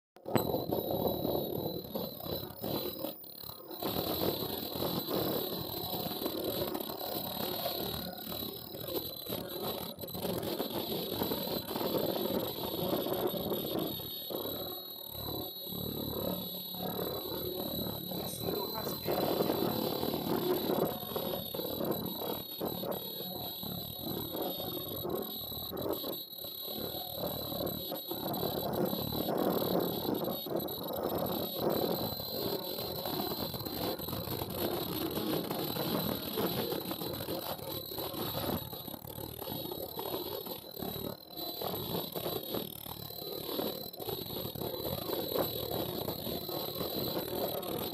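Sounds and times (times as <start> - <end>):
high-pitched machine whine: 0.2 - 47.9.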